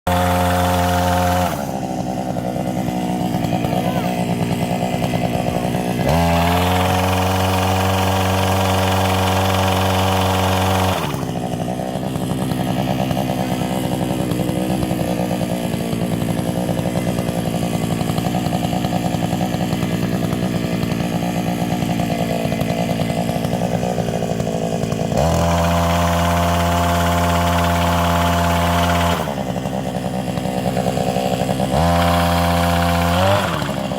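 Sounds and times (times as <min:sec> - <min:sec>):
two-stroke engine revving: 0:00.1 - 0:33.9.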